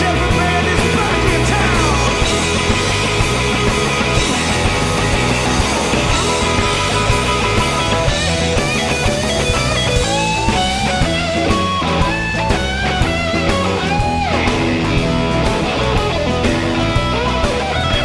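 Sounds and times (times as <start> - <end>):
bass guitar: 0.0 - 18.0
drums: 0.0 - 18.0
electric guitar with string bends: 0.0 - 18.0.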